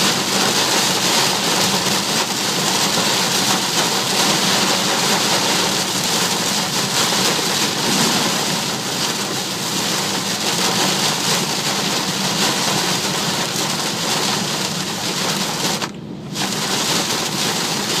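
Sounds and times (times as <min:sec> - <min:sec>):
heavy rain on a car: 0:00.0 - 0:18.0
road noise: 0:00.0 - 0:18.0.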